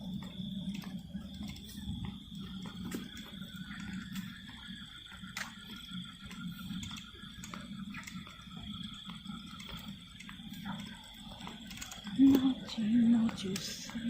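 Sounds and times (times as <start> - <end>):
insects droning: 0.0 - 14.0
sharp clicks: 0.2 - 14.0.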